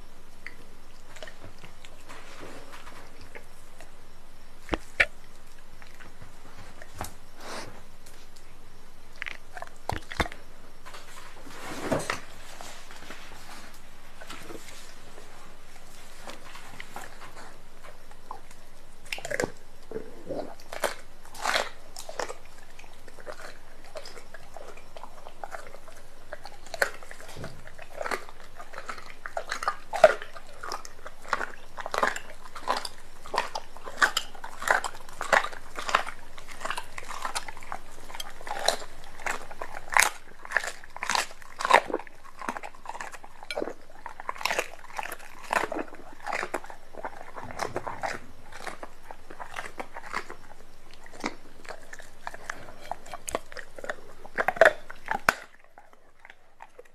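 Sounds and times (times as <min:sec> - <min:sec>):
dog chewing meat: 0:00.0 - 0:56.9.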